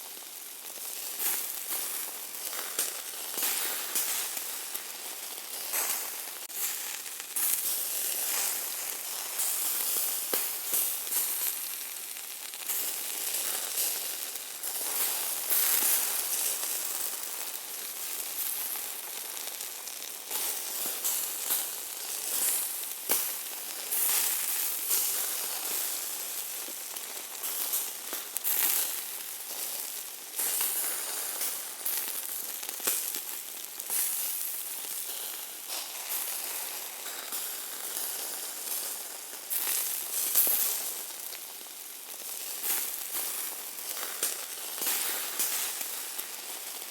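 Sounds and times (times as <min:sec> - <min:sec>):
meat sizzling with crackling pops: 0:00.0 - 0:46.9.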